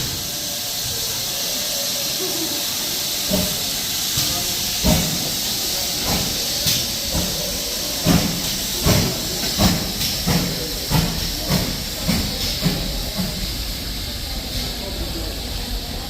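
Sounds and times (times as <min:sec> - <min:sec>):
steady hiss of steam: 0:00.0 - 0:16.0
steam locomotive chuffing: 0:00.0 - 0:16.0.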